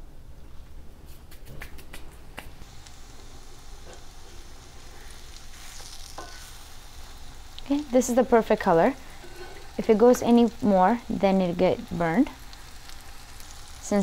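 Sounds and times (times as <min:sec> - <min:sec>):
crackles and pops in frying pan: 0:01.4 - 0:14.0
frying sizzle: 0:02.6 - 0:14.0.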